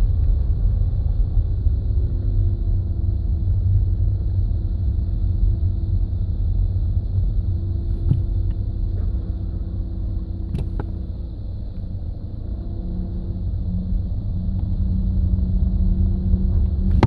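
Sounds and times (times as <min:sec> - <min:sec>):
low groaning rumble from car: 0:00.0 - 0:17.0.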